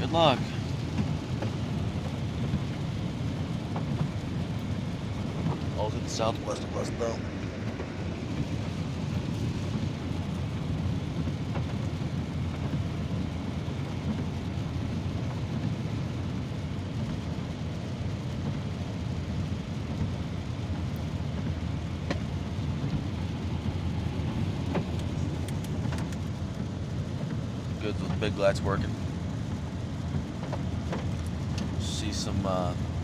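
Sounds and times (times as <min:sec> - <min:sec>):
road and engine noise in car: 0:00.0 - 0:33.0.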